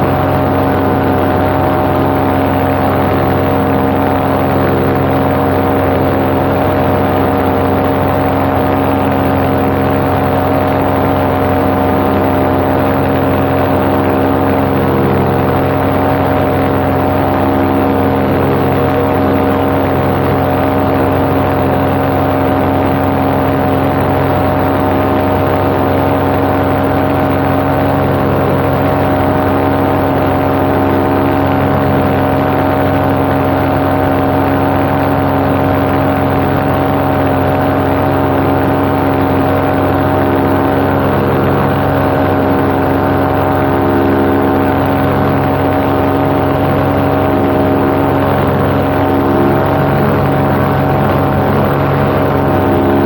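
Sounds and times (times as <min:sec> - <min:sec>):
paramotor engine hum: 0:00.0 - 0:53.0.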